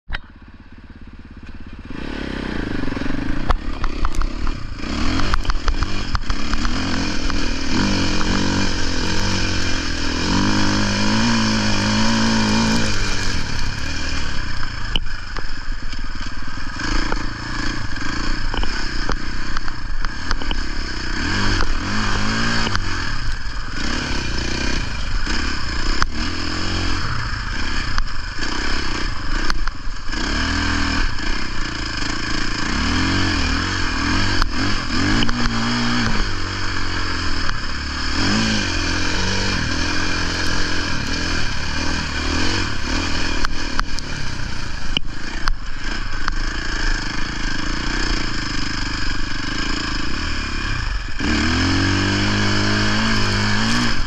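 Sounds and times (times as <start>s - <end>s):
motocross bike engine revving: 0.5s - 54.0s.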